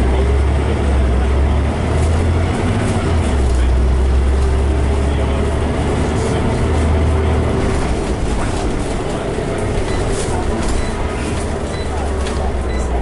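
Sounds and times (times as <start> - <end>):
bus body rattling: 0.0 - 13.0
bus diesel engine droning: 0.0 - 13.0.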